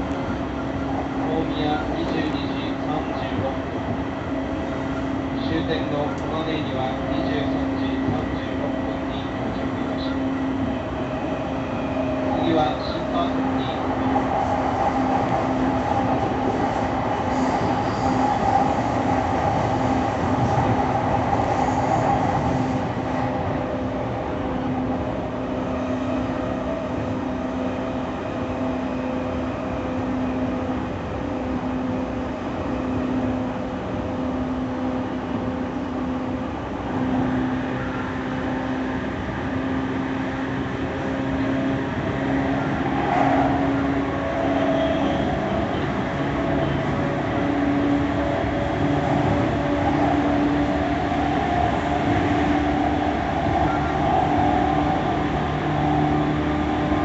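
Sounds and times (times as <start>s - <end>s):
train motor hum: 0.0s - 57.0s
wheels rumbling on rail: 0.0s - 57.0s.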